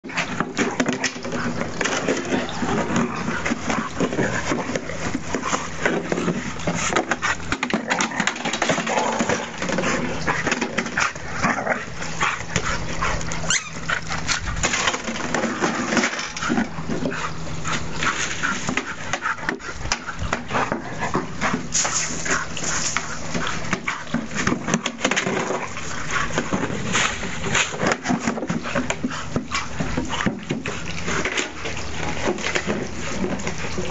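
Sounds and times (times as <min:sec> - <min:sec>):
dog noises: 0:00.0 - 0:33.9
plastic can clattering and scraping: 0:00.0 - 0:33.9.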